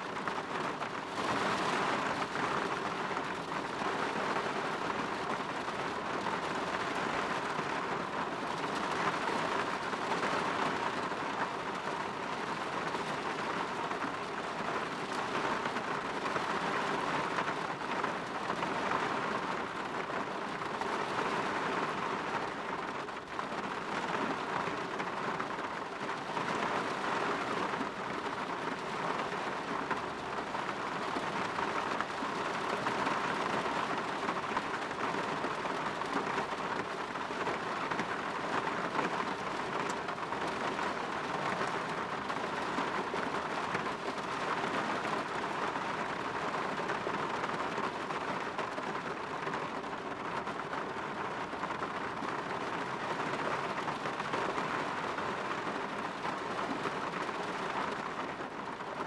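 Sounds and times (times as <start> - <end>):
rain against a window: 0.0 - 59.0.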